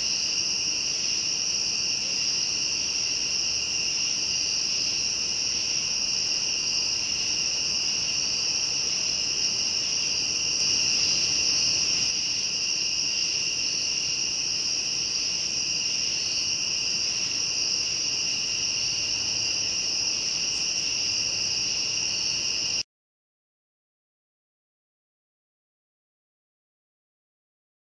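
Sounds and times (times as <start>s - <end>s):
crickets trilling: 0.0s - 22.8s.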